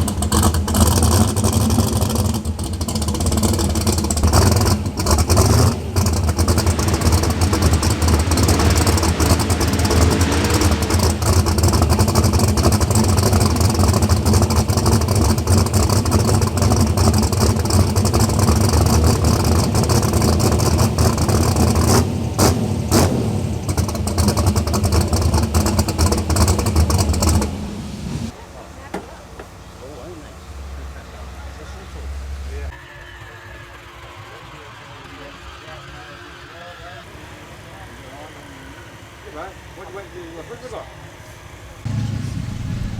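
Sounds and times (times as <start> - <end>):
drag car engine running: 0.0 - 42.9.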